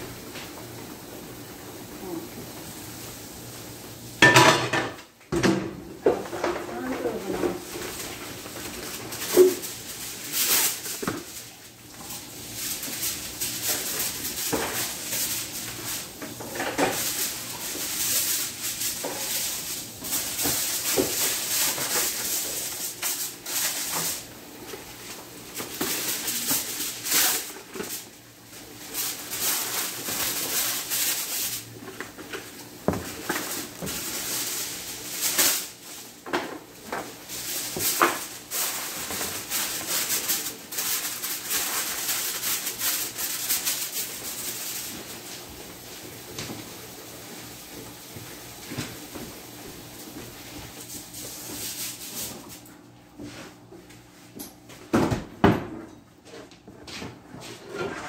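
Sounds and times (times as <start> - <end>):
aluminium foil crinkling: 6.2 - 52.7.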